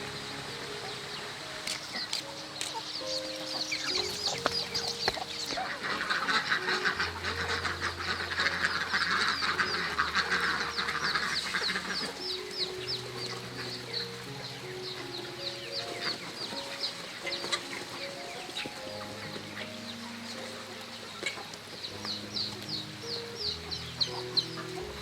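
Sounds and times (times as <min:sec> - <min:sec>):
chickens chirping and clucking: 0:00.0 - 0:25.0.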